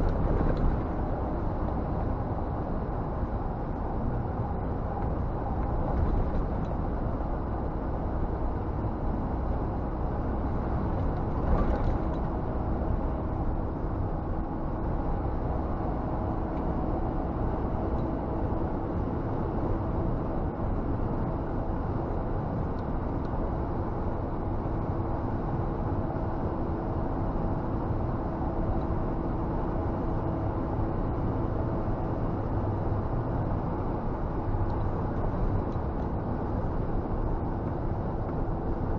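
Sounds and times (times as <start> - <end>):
diesel engine drone: 0.0 - 38.9
road noise: 0.0 - 38.9.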